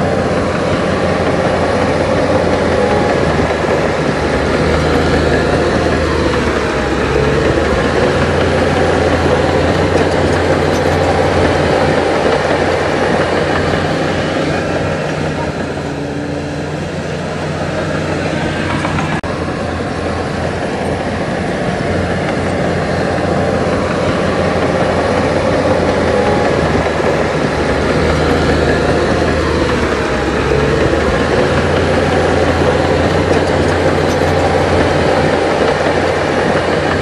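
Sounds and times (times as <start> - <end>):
heavy machinery diesel engine running: 0.0 - 37.0.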